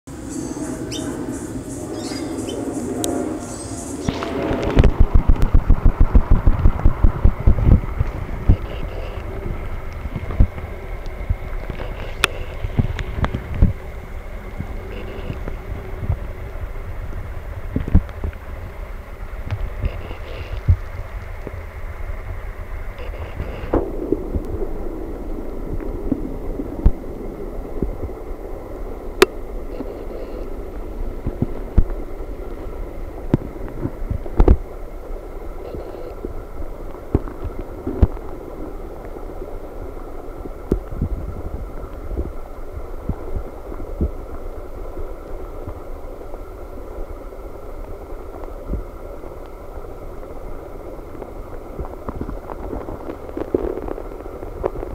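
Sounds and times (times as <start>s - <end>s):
high hiss: 0.1s - 54.9s
steady low rumble: 0.1s - 54.9s.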